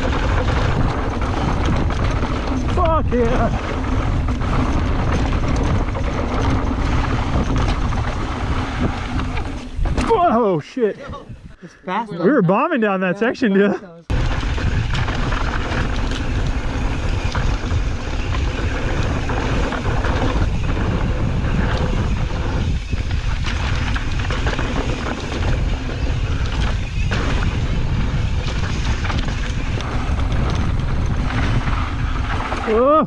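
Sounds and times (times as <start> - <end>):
bike knocks and rattles: 0.0 - 10.3, 14.1 - 33.0
wind on microphone: 0.0 - 10.3, 11.0 - 11.7, 14.1 - 33.0.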